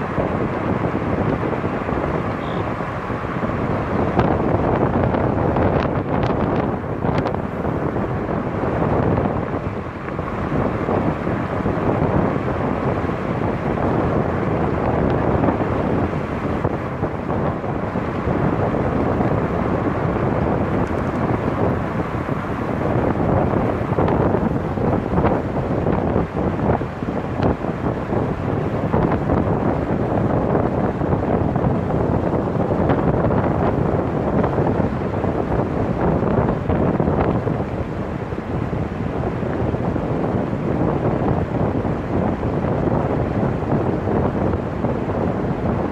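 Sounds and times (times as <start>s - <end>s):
tyre and road noise: 0.0s - 45.9s
wind rushing over microphone: 0.0s - 45.9s.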